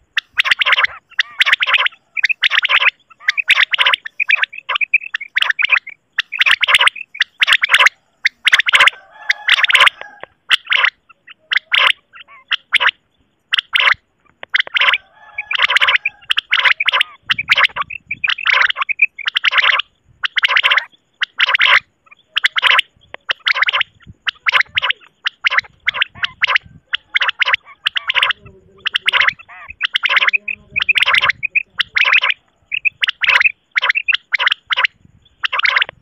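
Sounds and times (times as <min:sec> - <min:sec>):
quail calling: 0:00.0 - 0:36.0.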